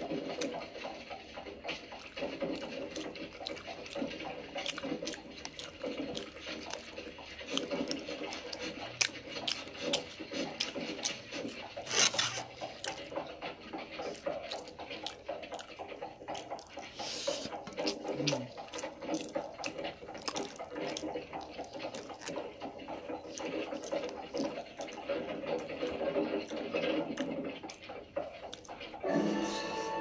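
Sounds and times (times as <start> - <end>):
person chewing wetly: 0.0 - 29.0.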